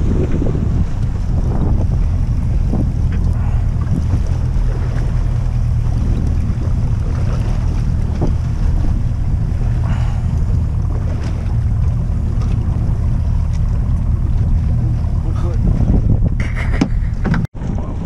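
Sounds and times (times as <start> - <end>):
waves washing against hull: 0.0 - 18.0
wind buffeting microphone: 0.0 - 18.0.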